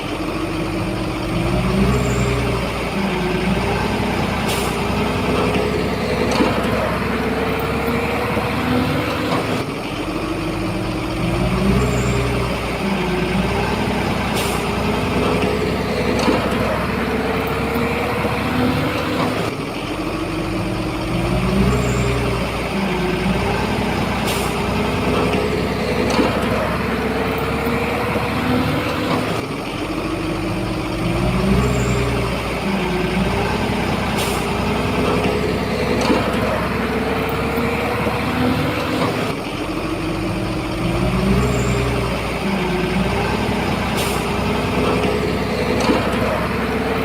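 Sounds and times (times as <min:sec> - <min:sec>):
bulldozer diesel engine under load: 0:00.0 - 0:47.0.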